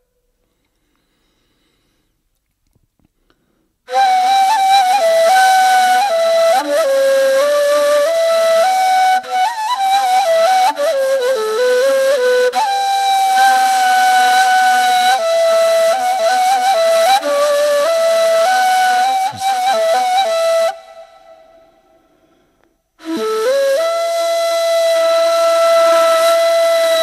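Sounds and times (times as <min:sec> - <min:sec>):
solo flute melody: 0:03.9 - 0:22.3, 0:23.0 - 0:27.0.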